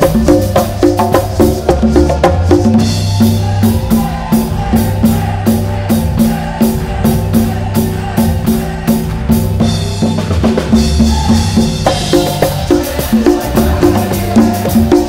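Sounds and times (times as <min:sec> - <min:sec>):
bass line: 0:00.0 - 0:15.0
hand-played congas: 0:00.0 - 0:15.0
live band music: 0:00.0 - 0:15.0.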